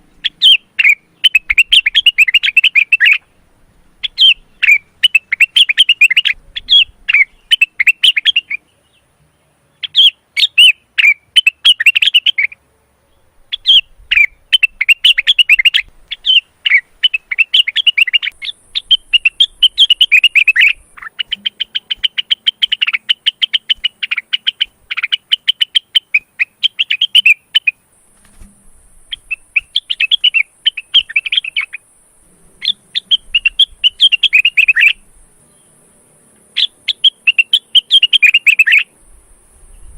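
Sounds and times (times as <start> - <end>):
bird chirping and whistling: 0.2 - 3.2, 4.0 - 8.6, 9.8 - 12.6, 13.5 - 27.7, 29.1 - 31.8, 32.6 - 35.0, 36.6 - 38.9.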